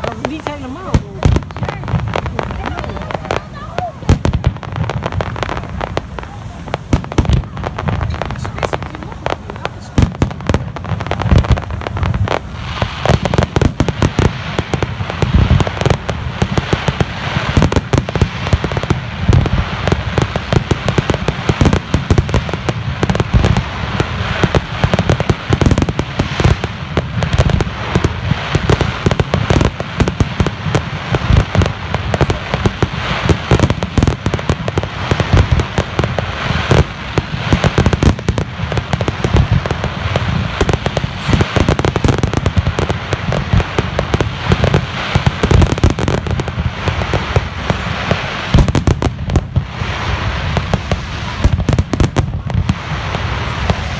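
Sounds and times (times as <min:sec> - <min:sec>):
fireworks bangs and booms: 0:00.0 - 0:53.9.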